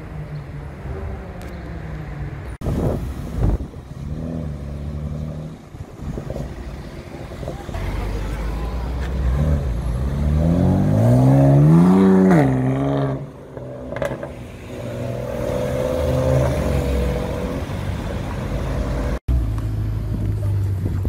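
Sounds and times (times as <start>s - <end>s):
city traffic noise: 0.0s - 21.0s.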